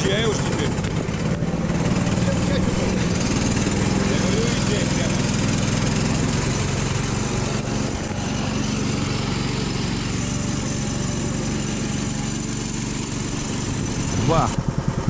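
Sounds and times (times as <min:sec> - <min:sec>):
small off-road vehicle engine running: 0:00.0 - 0:15.0.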